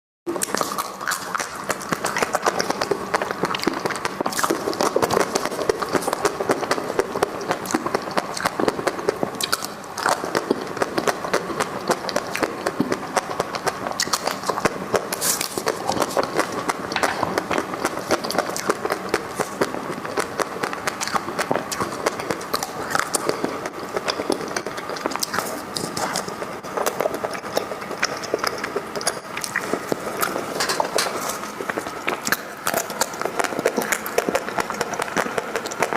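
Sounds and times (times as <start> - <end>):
crunching and chewing: 0.3 - 35.9.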